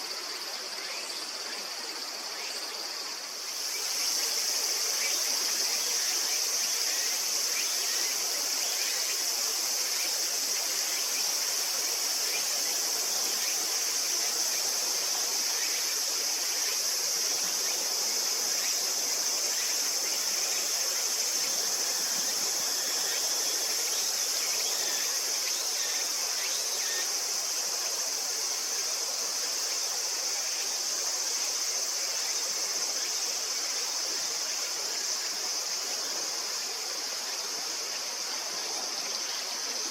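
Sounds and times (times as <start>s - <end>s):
high-pitched insect chorus: 0.0s - 39.9s
river stream rushing: 3.1s - 39.9s.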